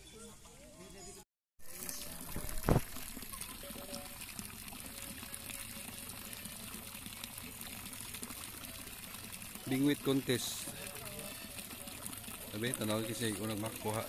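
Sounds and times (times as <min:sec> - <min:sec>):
trickle of running water: 0:01.6 - 0:14.0.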